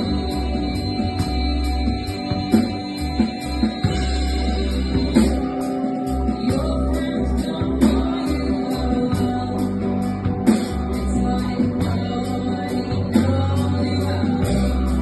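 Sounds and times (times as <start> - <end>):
guitar: 0.0 - 15.0
high percussion beat: 0.0 - 15.0
live band playing: 0.0 - 15.0.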